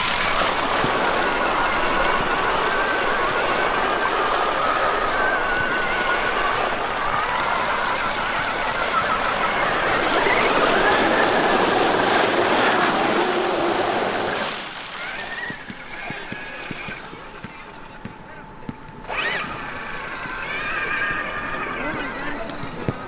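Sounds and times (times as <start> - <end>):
rc truck electric motor whining: 0.0 - 17.9, 19.0 - 23.0.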